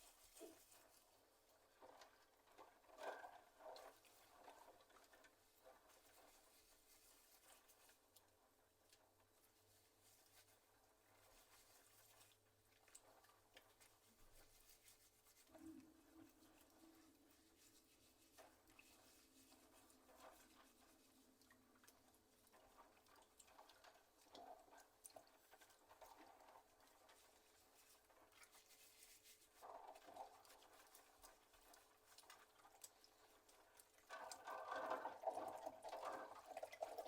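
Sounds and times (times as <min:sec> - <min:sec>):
faint small clicks and taps: 0:00.0 - 0:37.0.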